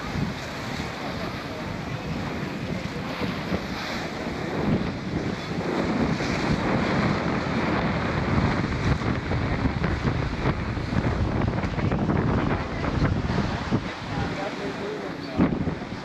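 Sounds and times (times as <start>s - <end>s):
sea water washing: 0.0s - 16.0s
wind buffeting microphone: 0.0s - 16.0s.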